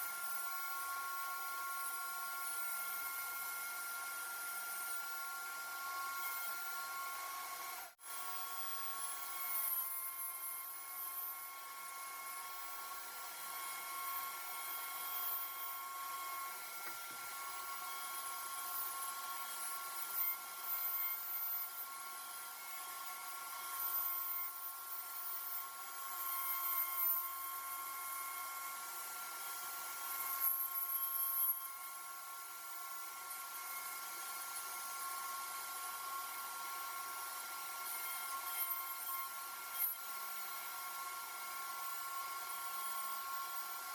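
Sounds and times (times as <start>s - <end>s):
small motor whining: 0.0s - 43.9s.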